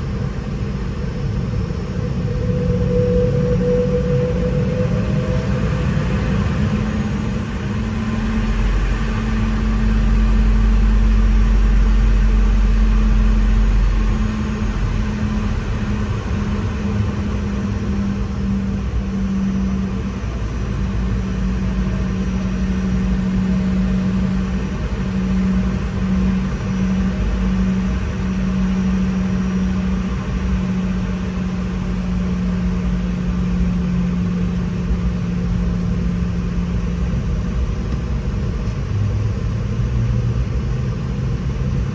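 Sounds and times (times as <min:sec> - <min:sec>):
jet engines running: 0:00.0 - 0:41.9.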